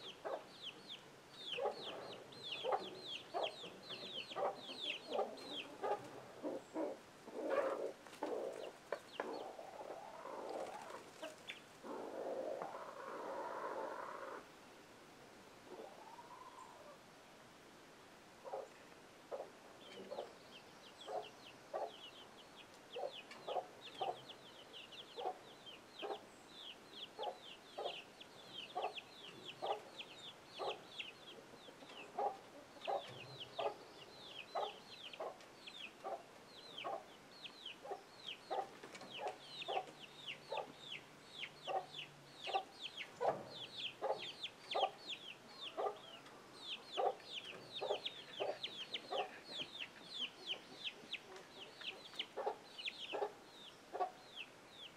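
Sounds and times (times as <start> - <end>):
chicks peeping: 0.0 - 14.4, 18.4 - 54.9
hen clucking: 1.5 - 14.4, 21.0 - 26.2, 28.6 - 54.5.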